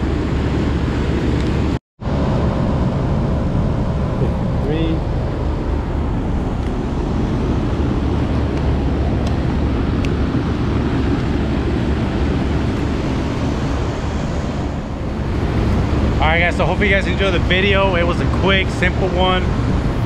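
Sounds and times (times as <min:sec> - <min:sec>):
air conditioning fan rushing: 0:00.0 - 0:20.0
constant low hum: 0:00.0 - 0:20.0.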